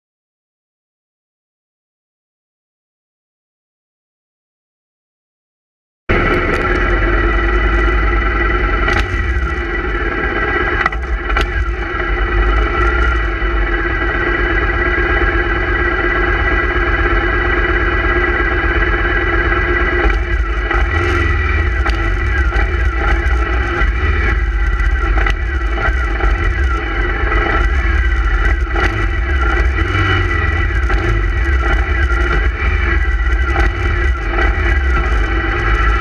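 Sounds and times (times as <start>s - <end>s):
motorcycle engine idling: 6.1s - 36.0s
other motorcycle engines: 6.1s - 36.0s.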